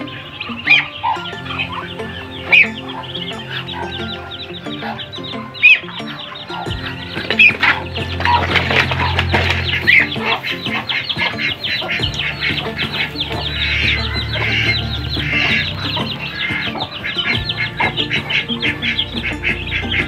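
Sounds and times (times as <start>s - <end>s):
ducklings peeping: 0.0s - 20.0s.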